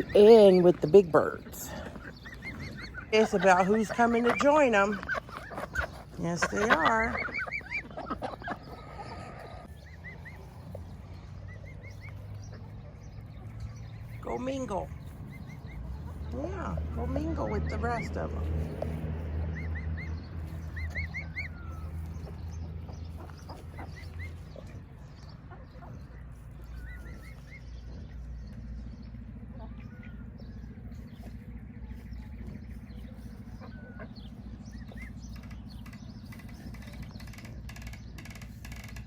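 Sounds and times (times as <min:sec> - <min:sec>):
birds chirping rising peeps: 0:00.0 - 0:39.0.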